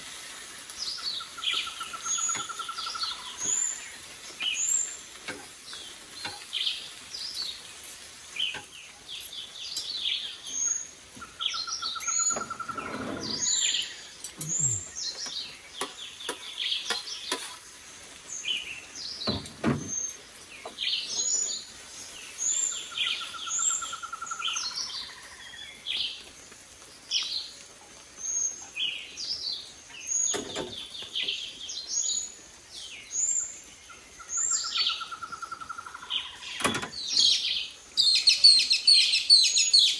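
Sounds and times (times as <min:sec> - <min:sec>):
birds chirping and whistling: 0:00.8 - 0:07.6, 0:08.4 - 0:17.4, 0:18.3 - 0:26.2, 0:28.2 - 0:39.9.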